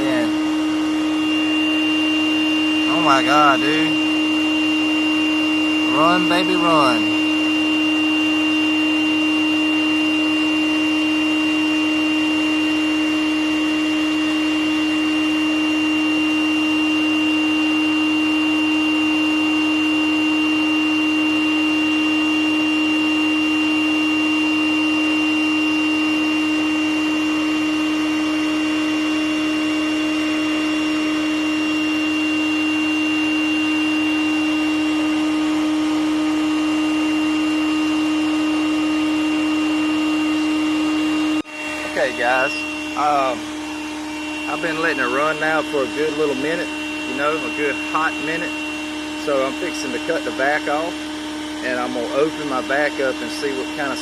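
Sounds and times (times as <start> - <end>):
vacuum humming and whining: 0.0 - 54.0.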